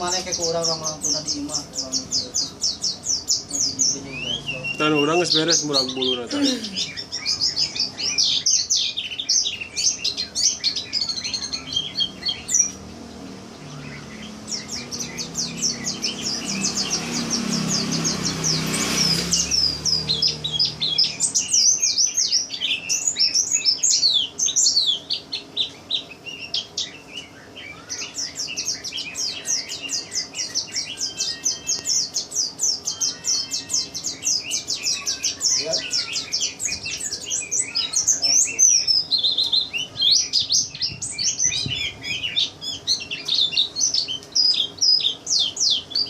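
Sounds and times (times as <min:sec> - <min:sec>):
bird twittering in high chirps: 0:00.0 - 0:46.0.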